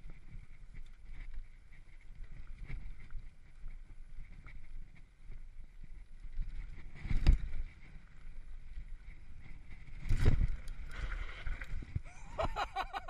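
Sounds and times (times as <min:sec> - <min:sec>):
bike rumbling and rattling: 0:00.0 - 0:13.0
wind buffeting microphone: 0:00.0 - 0:13.0.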